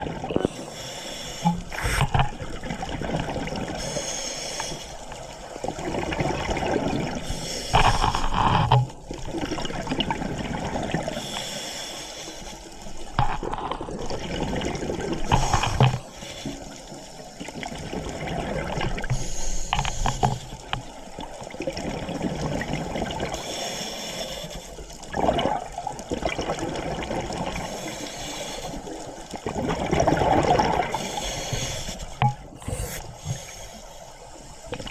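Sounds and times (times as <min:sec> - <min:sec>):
exhaled bubbles gurgling: 0:00.0 - 0:11.4, 0:12.9 - 0:23.8, 0:25.0 - 0:34.9
steady watery hiss: 0:00.0 - 0:34.9.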